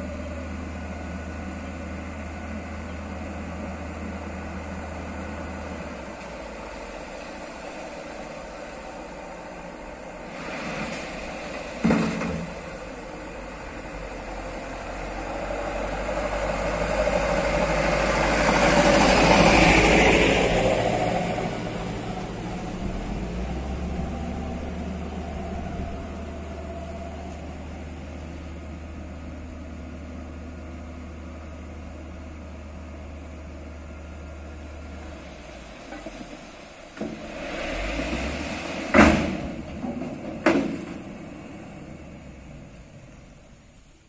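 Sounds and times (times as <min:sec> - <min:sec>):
diesel truck engine drone: 0:00.0 - 0:44.0
rushing noise of load dumping: 0:03.4 - 0:30.6, 0:34.1 - 0:43.6.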